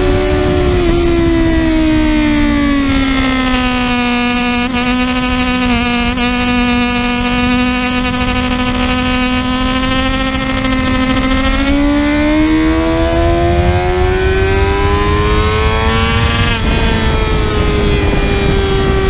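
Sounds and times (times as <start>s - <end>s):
motorcycle engine at high revs: 0.0s - 19.0s
wind rush: 0.0s - 19.0s.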